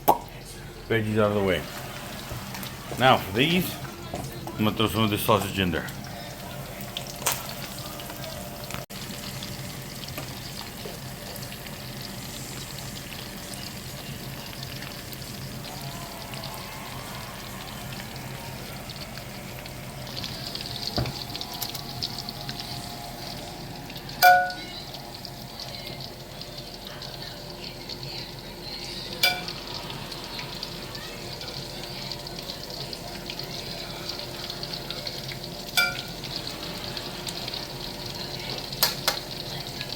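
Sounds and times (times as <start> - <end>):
sausage sizzling in oil: 0.0 - 39.9.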